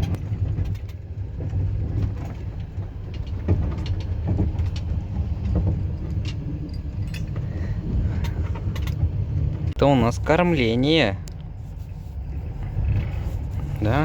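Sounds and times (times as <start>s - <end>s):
knocks and rattles: 0.0s - 14.0s
train wheels rumbling on rails: 0.0s - 14.0s.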